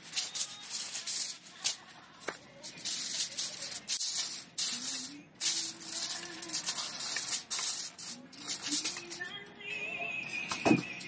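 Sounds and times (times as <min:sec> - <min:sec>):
aluminium foil crinkling: 0:00.0 - 0:09.4.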